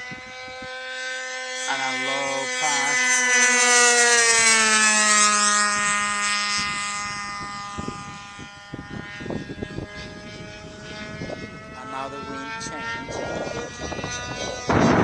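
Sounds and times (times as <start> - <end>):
model airplane engine whine: 0.0 - 15.0
wind rumbling on microphone: 0.0 - 15.0.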